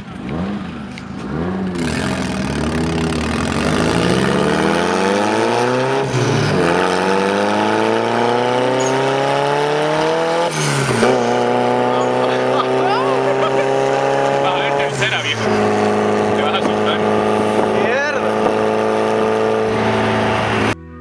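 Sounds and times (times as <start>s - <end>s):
car engine accelerating hard: 0.0s - 20.9s.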